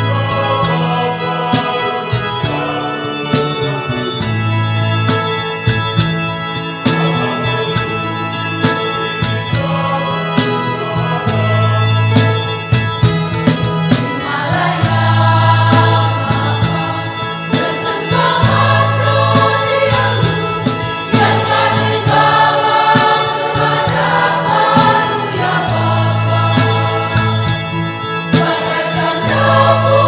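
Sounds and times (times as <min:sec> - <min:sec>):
choir singing a hymn: 0:00.0 - 0:30.0
held bass notes: 0:00.0 - 0:30.0
sharp accompaniment beats: 0:00.0 - 0:30.0.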